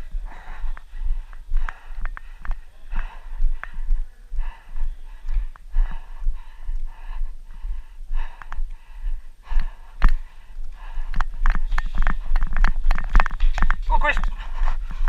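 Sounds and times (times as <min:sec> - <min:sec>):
hard rapid breathing: 0:00.0 - 0:15.0.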